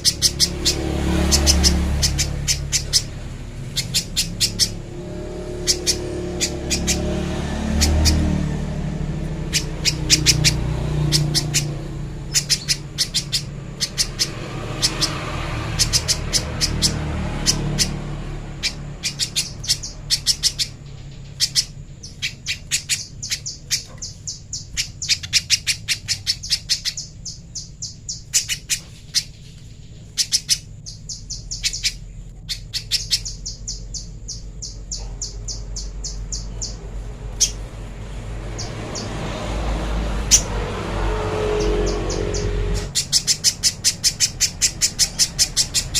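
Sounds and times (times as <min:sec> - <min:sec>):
bird chirping high and sharp: 0:00.0 - 0:45.9.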